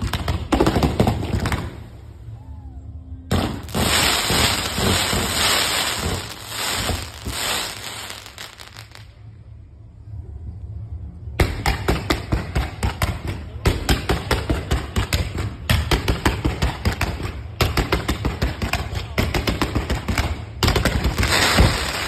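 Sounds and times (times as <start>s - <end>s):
fireworks banging and crackling: 0.0s - 2.1s, 3.3s - 9.2s, 11.4s - 22.0s.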